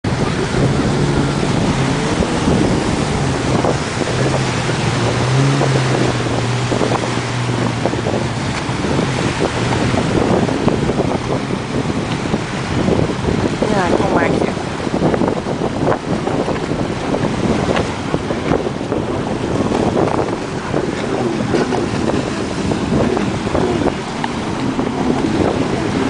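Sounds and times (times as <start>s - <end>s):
jet ski engine running: 0.0s - 26.0s
water splashing: 0.0s - 26.0s
wind noise on microphone: 0.0s - 26.0s.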